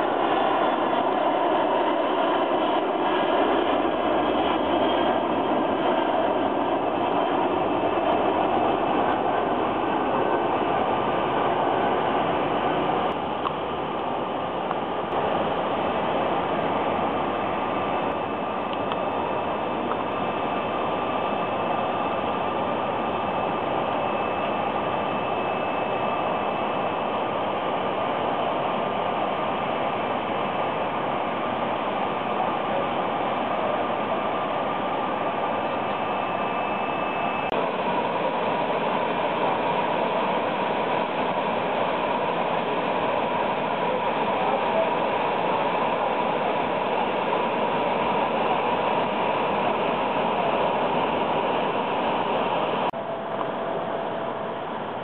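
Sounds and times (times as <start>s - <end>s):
machine whine: 0.0s - 55.0s.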